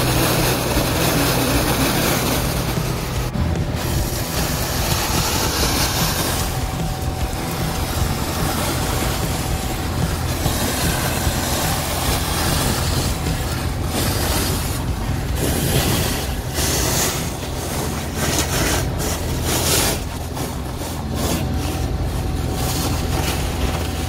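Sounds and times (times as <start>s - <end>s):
engine hum: 0.0s - 24.0s
vacuum pump running: 0.0s - 24.0s.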